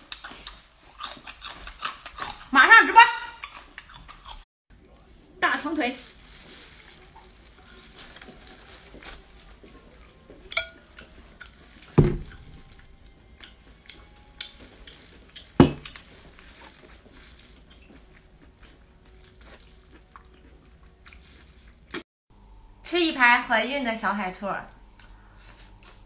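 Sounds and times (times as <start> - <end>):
eating and handling sounds: 0.0 - 22.0, 24.9 - 26.0.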